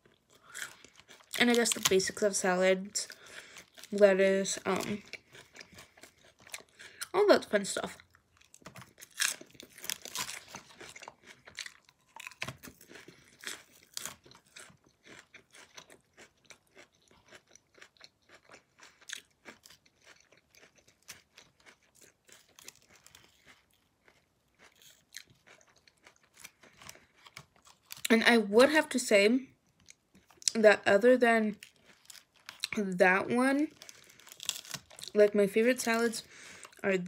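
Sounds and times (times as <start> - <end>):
person chewing crisp lettuce: 0.0 - 1.9, 2.9 - 28.1, 29.6 - 30.6, 31.6 - 32.8, 33.6 - 35.2, 35.8 - 36.8.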